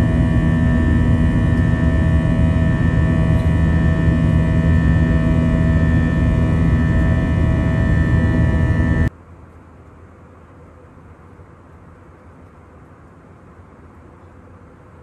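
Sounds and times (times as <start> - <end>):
jet engine cabin noise: 0.0 - 15.0.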